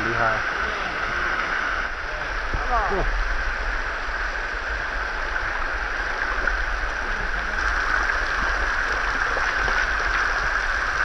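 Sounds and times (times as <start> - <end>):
water jets pouring and splashing: 0.0 - 11.0.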